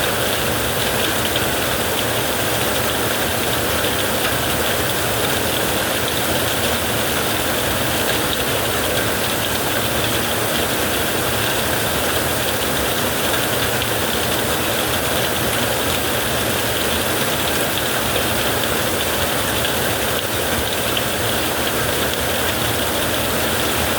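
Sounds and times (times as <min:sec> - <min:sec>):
heavy rain on a tent: 0:00.0 - 0:23.9.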